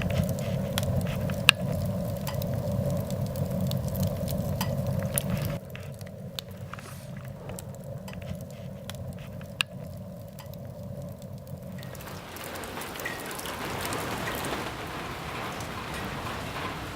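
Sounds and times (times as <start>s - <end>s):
low rumble: 0.0s - 16.9s
rain pattering: 0.0s - 16.9s.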